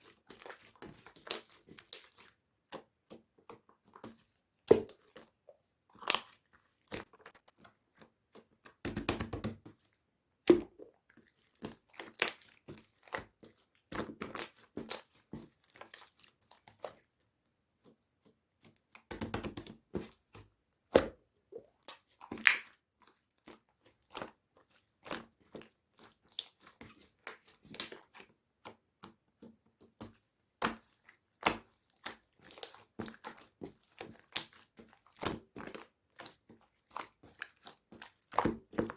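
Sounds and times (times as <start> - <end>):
rapid crackling of slime: 0.0 - 2.4, 3.2 - 9.9, 10.5 - 17.0, 21.7 - 38.9.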